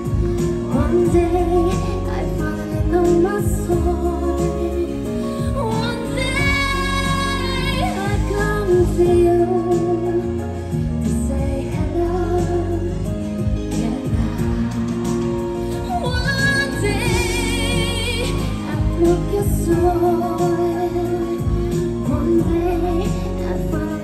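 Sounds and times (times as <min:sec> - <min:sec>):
pop backing track: 0:00.0 - 0:24.0
woman singing into microphone: 0:00.0 - 0:24.0.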